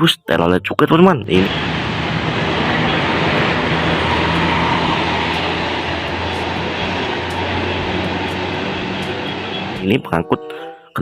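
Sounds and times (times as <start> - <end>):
bus engine running: 1.2 - 10.1.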